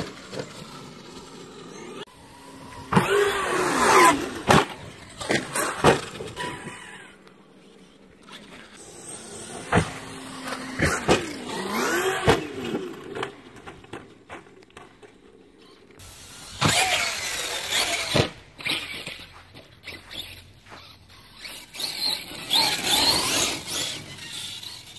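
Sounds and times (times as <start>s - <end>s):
toy truck motors whining: 0.0s - 24.9s.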